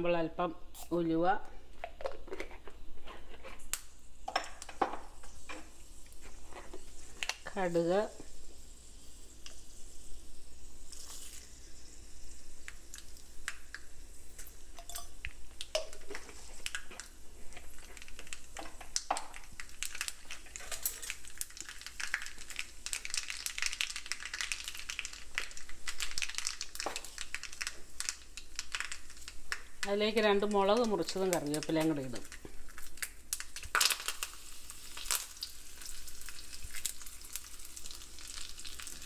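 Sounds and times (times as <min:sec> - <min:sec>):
seeds popping in sizzling oil: 0:03.6 - 0:39.0.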